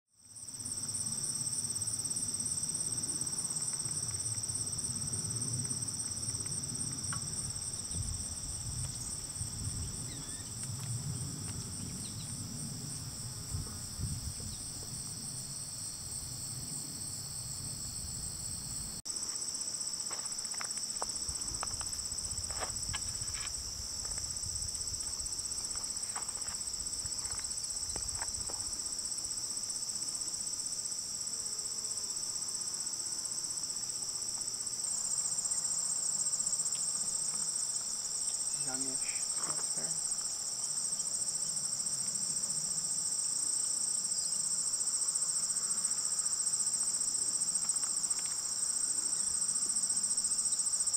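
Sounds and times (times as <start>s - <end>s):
insects trilling: 0.2s - 50.9s.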